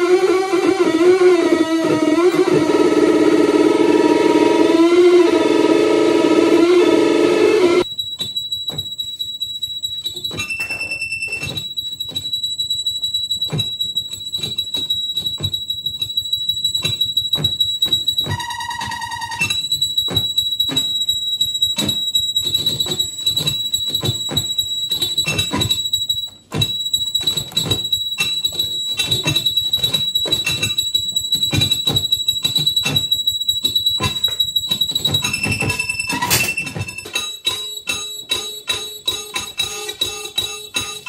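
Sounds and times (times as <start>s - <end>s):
saxophone feedback whistle: 0.0s - 41.0s.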